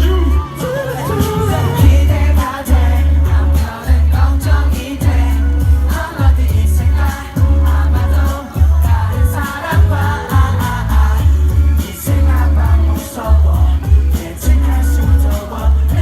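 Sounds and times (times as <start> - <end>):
person singing: 0.0 - 16.0
pop backing track with bass beat: 0.0 - 16.0.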